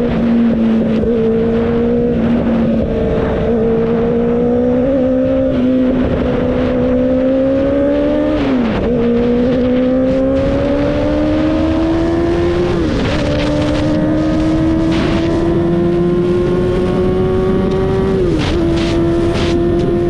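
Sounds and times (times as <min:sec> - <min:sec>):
motorcycle engine running hard: 0:00.0 - 0:20.0
wind and road rush: 0:00.0 - 0:20.0.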